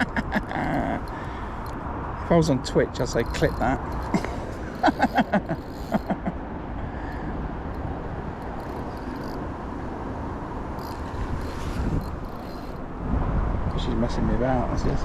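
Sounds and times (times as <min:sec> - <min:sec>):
rumbling wind on microphone: 0:00.0 - 0:15.0.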